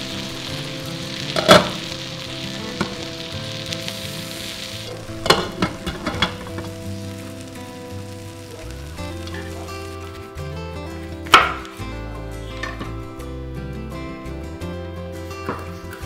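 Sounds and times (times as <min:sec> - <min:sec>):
rice boiling and bubbling: 0:00.0 - 0:13.5.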